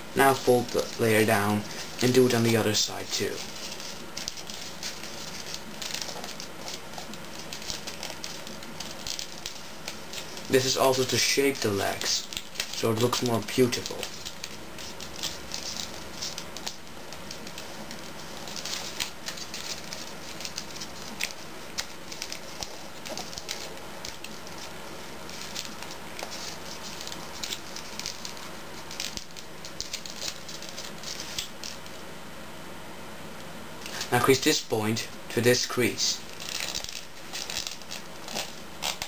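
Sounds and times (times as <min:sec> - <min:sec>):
steady low hiss: 0:00.0 - 0:39.0
paper crackling and rustling: 0:00.2 - 0:32.0, 0:35.8 - 0:39.0.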